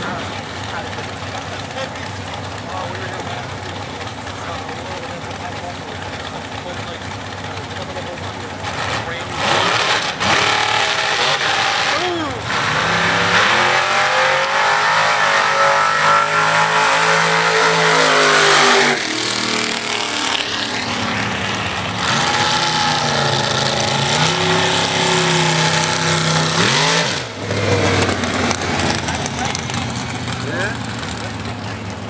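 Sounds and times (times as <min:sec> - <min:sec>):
drag racing cars accelerating: 0:00.0 - 0:32.0.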